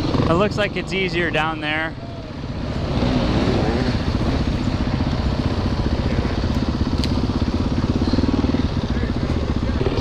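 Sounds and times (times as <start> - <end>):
dirt bike engine idling: 0.0 - 10.0.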